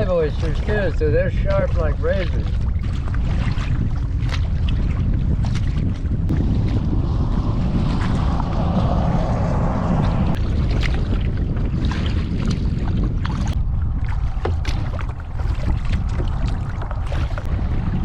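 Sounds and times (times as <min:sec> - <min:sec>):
water splashing off paddle: 0:00.0 - 0:18.0
wind rumble on microphone: 0:00.0 - 0:18.0.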